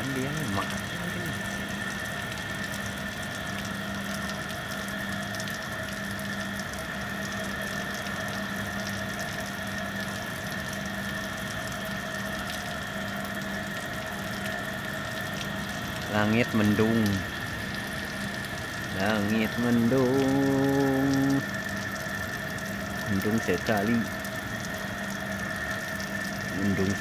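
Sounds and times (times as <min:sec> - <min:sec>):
water-like rushing noise: 0:00.0 - 0:27.0.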